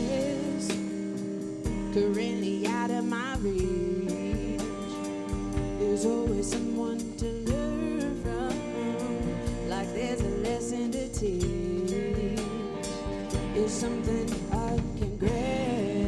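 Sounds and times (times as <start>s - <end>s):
band playing a song: 0.0s - 16.0s
drum kit beat: 0.0s - 16.0s.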